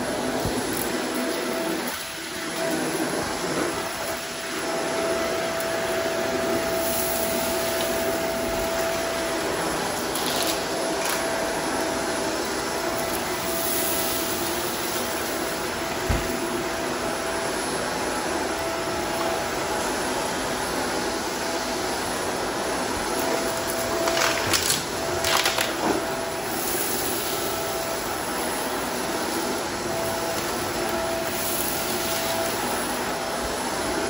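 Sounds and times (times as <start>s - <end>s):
upright vacuum whining: 0.0s - 34.0s.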